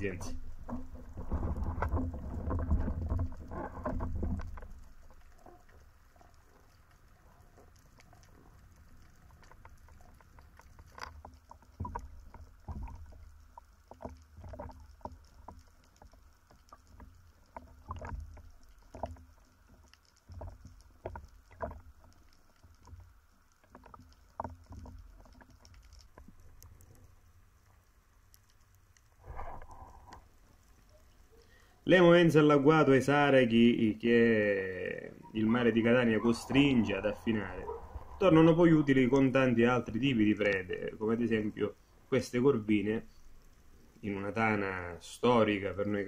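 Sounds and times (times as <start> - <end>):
underwater rush of water: 0.0 - 46.0.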